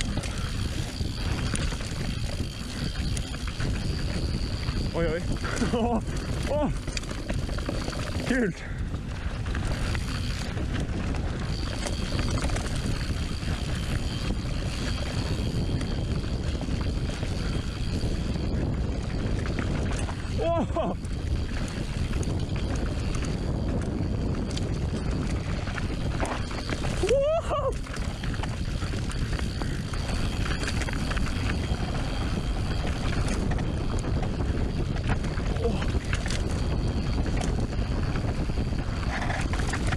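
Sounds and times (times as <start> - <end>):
bike rattles and clacks: 0.0 - 39.9
bike tyres rumbling on dirt: 0.0 - 39.9
wind noise on microphone: 0.0 - 39.9.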